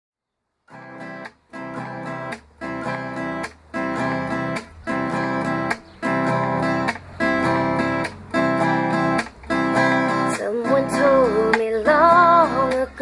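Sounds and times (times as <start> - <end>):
acoustic guitar strumming: 0.7 - 13.0.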